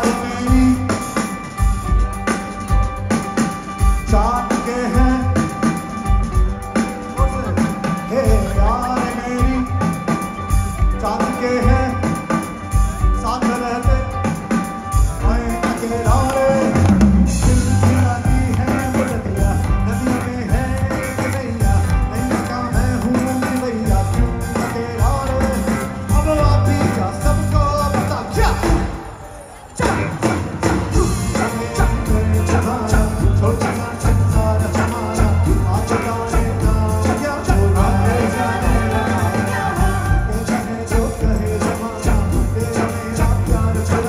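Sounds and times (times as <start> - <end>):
man singing: 0.0 - 1.7, 3.3 - 29.2, 29.8 - 44.0
live rock band: 0.0 - 44.0.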